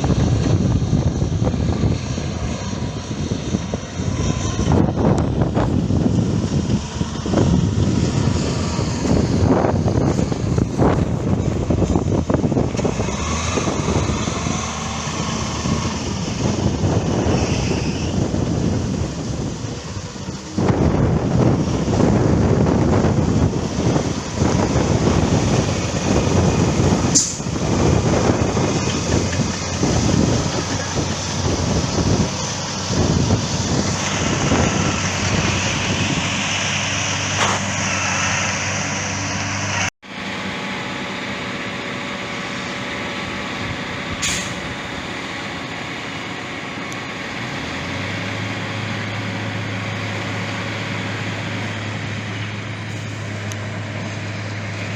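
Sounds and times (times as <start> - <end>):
heavy machinery engines running: 0.0 - 54.9.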